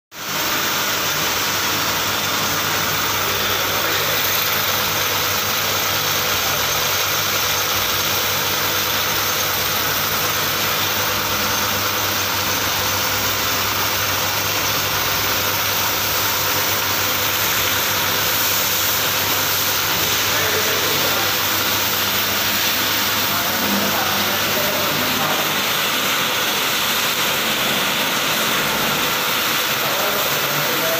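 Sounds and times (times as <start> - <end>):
pump motor humming: 0.2 - 30.9.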